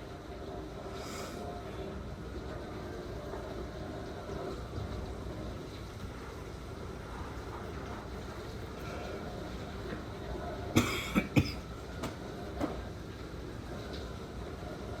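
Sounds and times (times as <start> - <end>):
muffled heavy rain: 0.0 - 15.0
muffled storm wind: 0.0 - 15.0.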